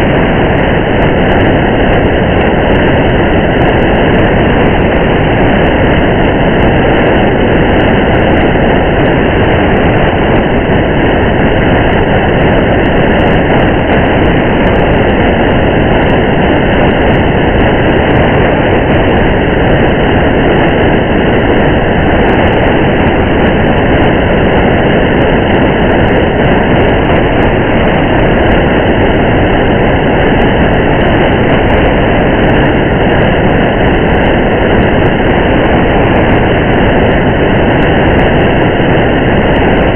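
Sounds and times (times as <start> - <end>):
rain and road rumble: 0.0 - 39.9.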